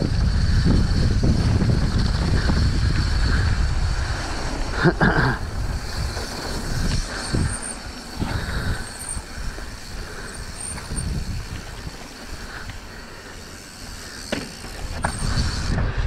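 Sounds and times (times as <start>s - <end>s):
mountain bike rattling: 0.0s - 16.0s
wind buffeting microphone: 0.0s - 16.0s.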